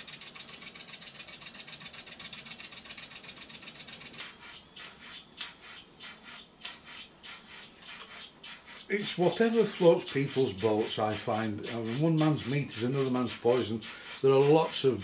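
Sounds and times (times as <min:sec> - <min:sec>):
model steam engine chuffing: 0:00.0 - 0:04.6, 0:05.6 - 0:15.0.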